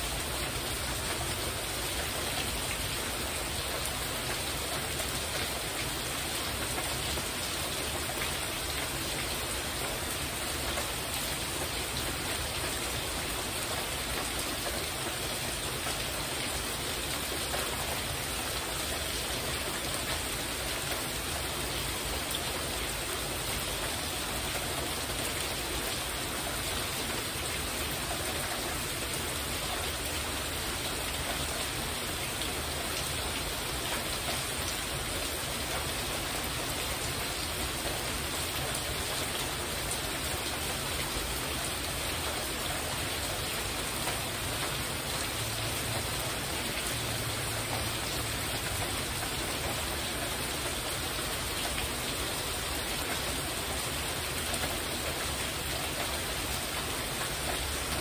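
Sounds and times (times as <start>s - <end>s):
heavy rain on a porch roof: 0.0s - 58.0s.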